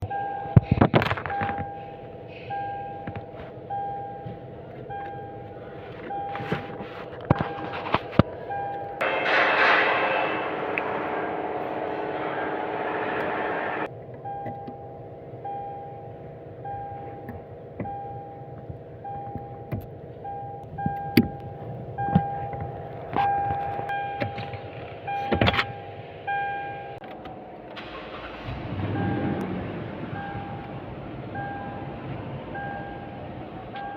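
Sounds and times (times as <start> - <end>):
car warning chime beeping: 0.0 - 6.7, 7.3 - 9.1, 12.4 - 27.0, 28.8 - 29.4, 30.1 - 33.9
low steady hum: 0.0 - 33.9.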